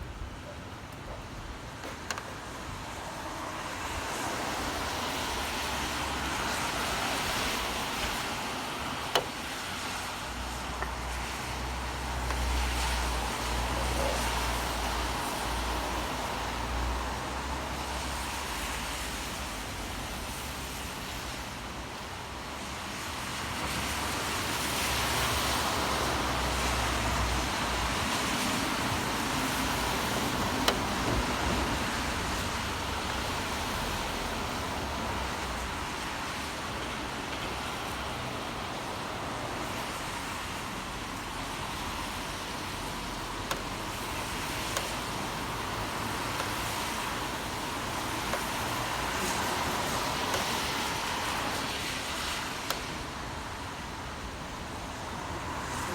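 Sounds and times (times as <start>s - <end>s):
tyres hissing on wet road: 0.8s - 55.9s.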